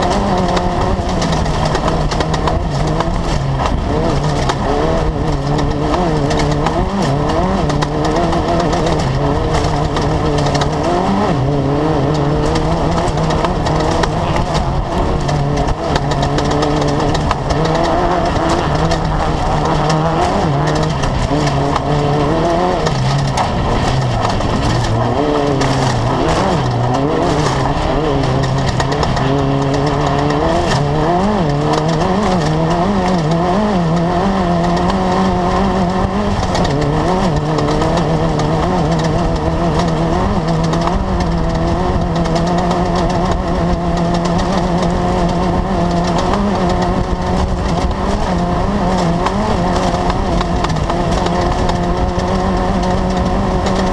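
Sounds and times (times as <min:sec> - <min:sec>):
buggy engine revving: 0:00.0 - 0:53.9
rough rushing and rattling: 0:00.0 - 0:53.9.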